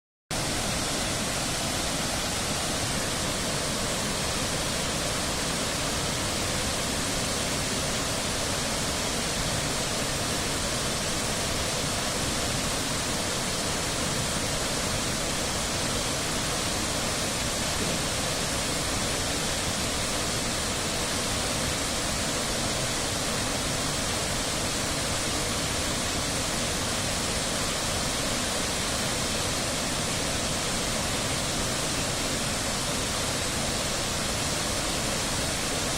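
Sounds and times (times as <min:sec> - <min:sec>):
waterfall rushing: 0:00.3 - 0:35.9.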